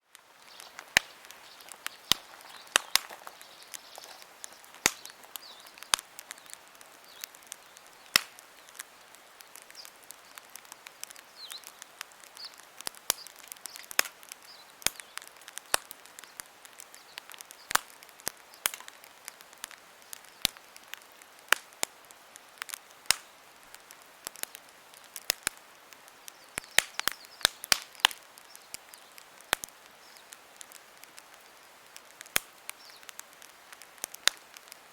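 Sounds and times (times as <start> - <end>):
campfire crackling and popping: 0.0 - 34.9
faint steady hiss: 0.0 - 34.9.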